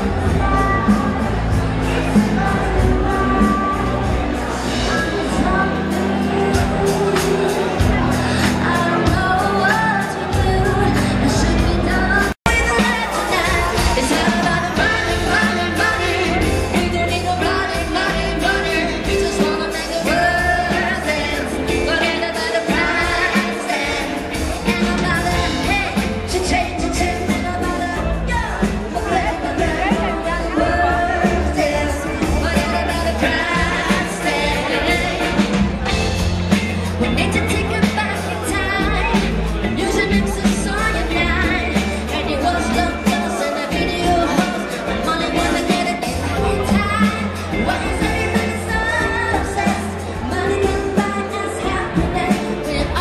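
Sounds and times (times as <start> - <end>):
lead singer singing: 0.0 - 53.0
live band playing: 0.0 - 53.0
steady bass line: 0.0 - 53.0.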